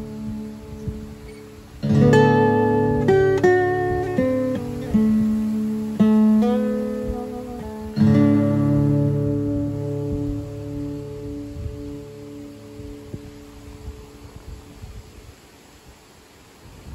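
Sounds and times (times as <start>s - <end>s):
acoustic guitar strumming and picking: 0.0s - 14.4s.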